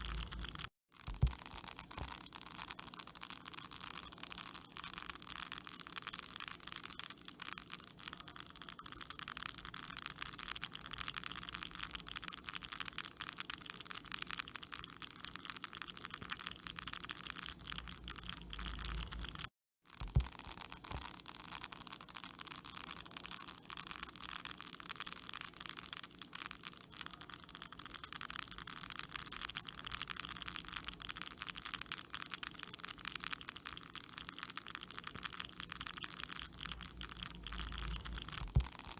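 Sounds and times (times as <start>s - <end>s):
termites crackling in wood: 0.0s - 38.9s.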